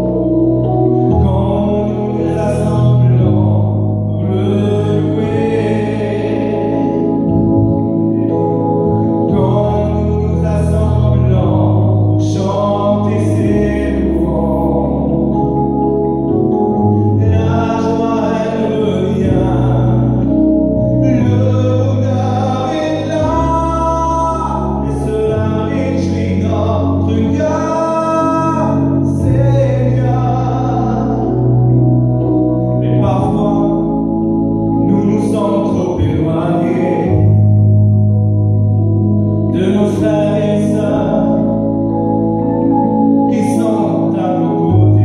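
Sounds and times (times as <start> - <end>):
man singing a hymn: 0.0 - 37.8, 39.5 - 45.0
instrumental backing music: 0.0 - 45.0.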